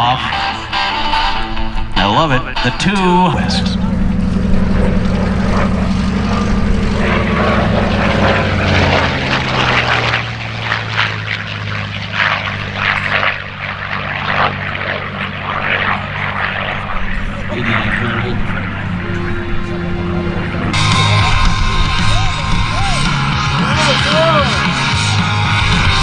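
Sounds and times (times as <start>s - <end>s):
propeller airplane flying past: 0.0s - 26.0s.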